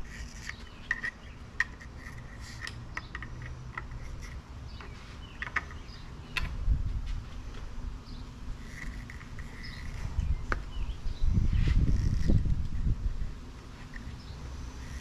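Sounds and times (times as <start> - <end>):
faint chirping outdoors: 0.0 - 15.0.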